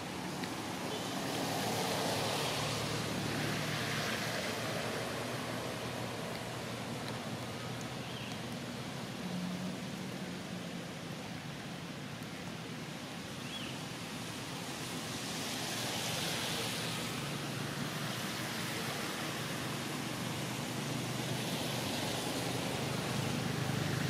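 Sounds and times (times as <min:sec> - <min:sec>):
rushing hiss of outdoor ambience: 0:00.0 - 0:24.0.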